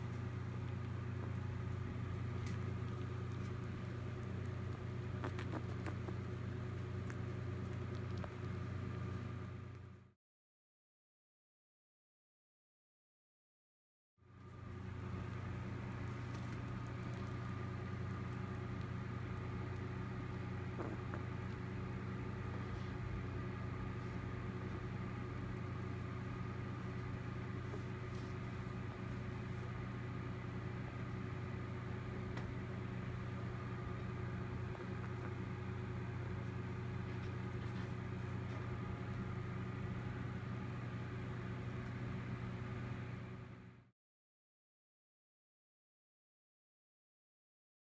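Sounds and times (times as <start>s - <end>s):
low mechanical hum: 0.0s - 10.2s, 14.2s - 43.9s.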